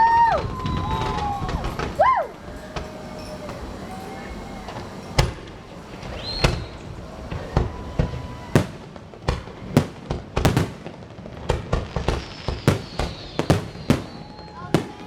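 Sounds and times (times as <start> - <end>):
fireworks bangs: 0.0 - 15.0
fireworks whistling: 0.0 - 15.0.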